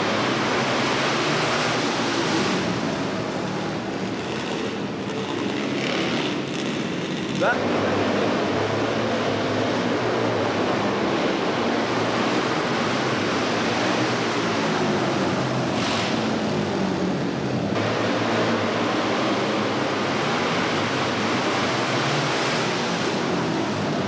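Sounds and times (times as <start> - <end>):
racing motorcycle engines: 0.0 - 24.0.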